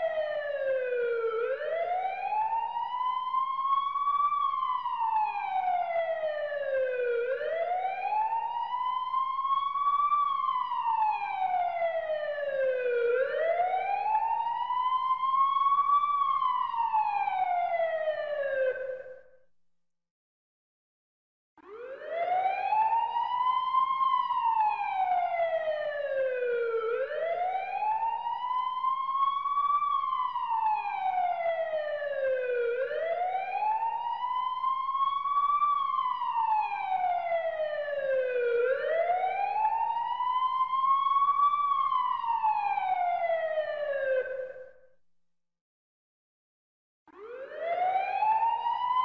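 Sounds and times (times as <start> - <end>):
emergency siren wailing: 0.0 - 19.2, 21.6 - 44.8, 47.1 - 49.0.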